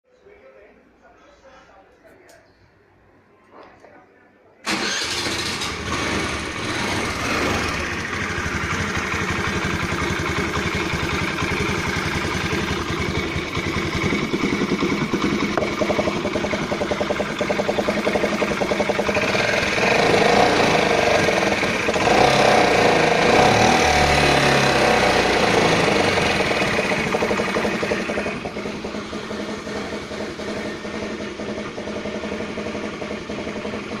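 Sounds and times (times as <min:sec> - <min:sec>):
scooter engine running: 0:04.7 - 0:34.0.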